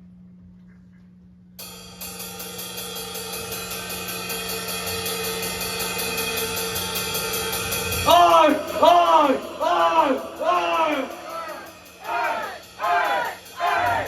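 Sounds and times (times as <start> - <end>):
fast cymbal beat: 1.6 - 14.0.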